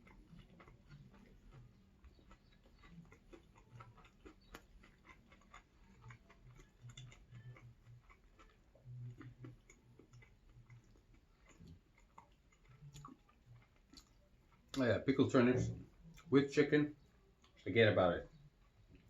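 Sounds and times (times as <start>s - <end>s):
chewing food: 0.0s - 19.0s.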